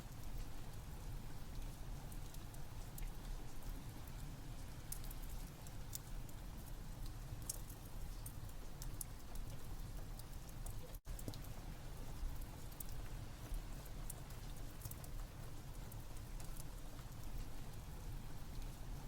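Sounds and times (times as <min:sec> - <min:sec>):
steady rain: 0:00.0 - 0:19.0
wood fire crackling: 0:00.0 - 0:19.0.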